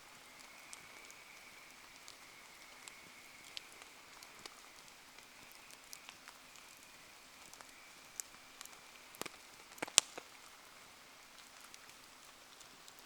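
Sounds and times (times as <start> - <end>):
faint steady hiss: 0.0 - 13.0
wood fire popping: 0.3 - 13.0.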